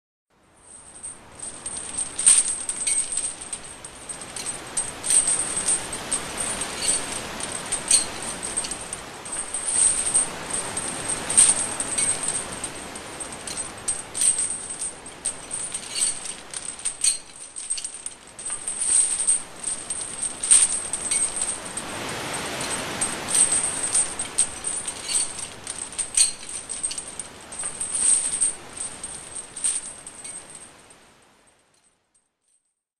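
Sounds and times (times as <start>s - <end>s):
metal chains jangling: 0.6s - 31.1s.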